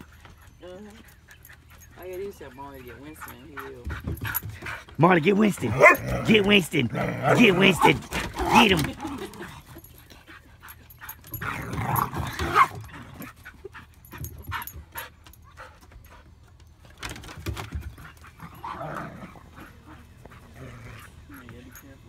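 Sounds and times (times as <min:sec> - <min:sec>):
dogs yipping and barking: 0:00.0 - 0:22.0.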